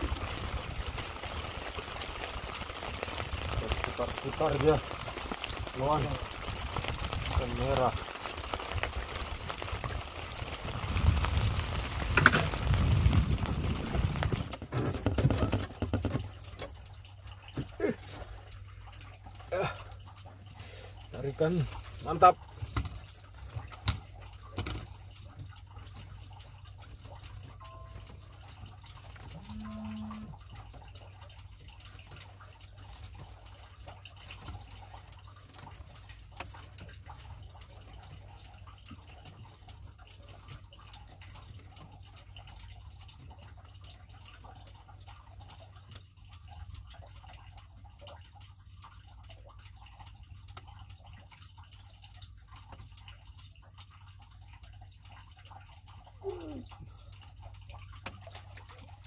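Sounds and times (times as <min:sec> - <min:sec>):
water dripping and lapping: 0:00.0 - 0:59.0.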